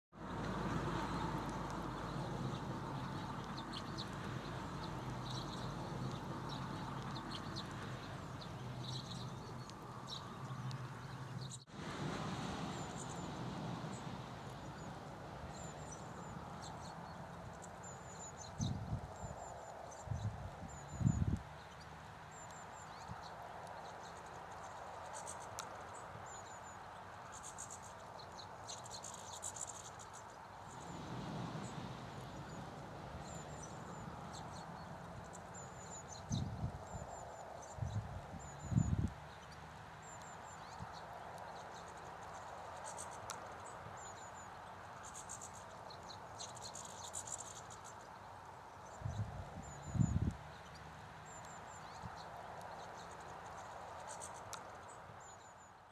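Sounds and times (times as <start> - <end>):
background hiss: 0.2 - 55.9
small birds chirping: 0.2 - 55.9.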